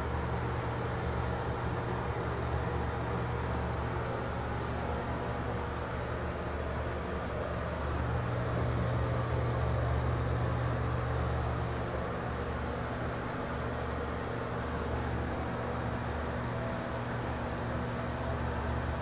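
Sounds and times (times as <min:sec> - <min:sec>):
exhaust fan humming: 0:00.0 - 0:19.0.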